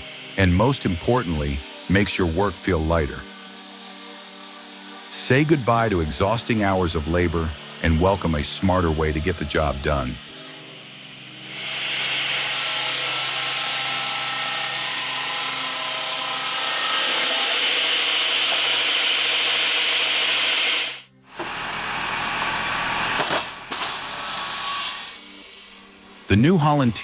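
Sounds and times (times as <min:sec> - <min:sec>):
machine humming: 0:00.0 - 0:27.0
power saw cutting wood: 0:00.0 - 0:27.0.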